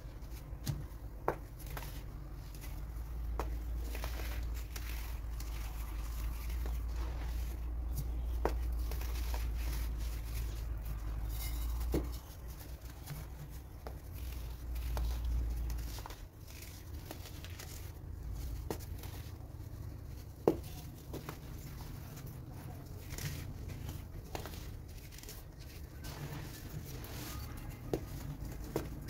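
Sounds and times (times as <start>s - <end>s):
dry powder crunching by hand: 0.1s - 29.0s.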